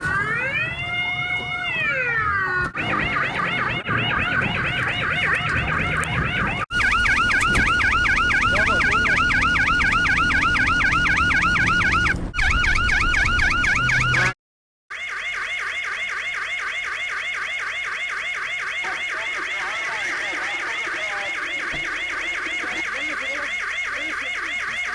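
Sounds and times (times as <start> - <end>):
police siren wailing and yelping: 0.0 - 24.9.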